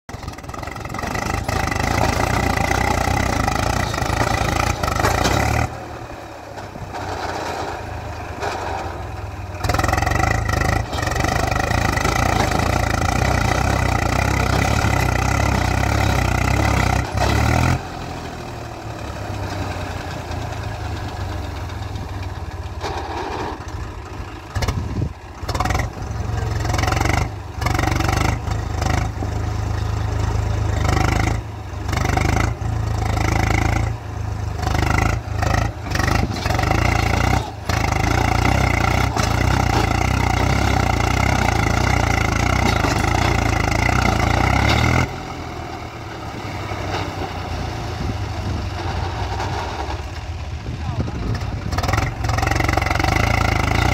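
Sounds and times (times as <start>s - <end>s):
tractor diesel engine under load: 0.1s - 53.9s.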